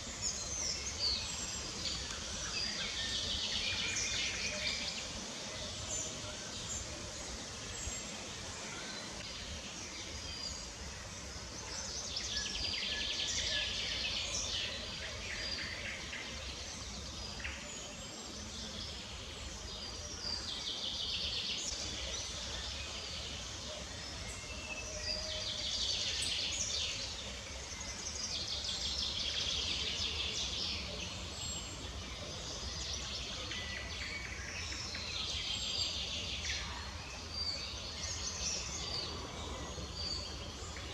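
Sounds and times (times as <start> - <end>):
birds singing trilled song: 0.0 - 40.9.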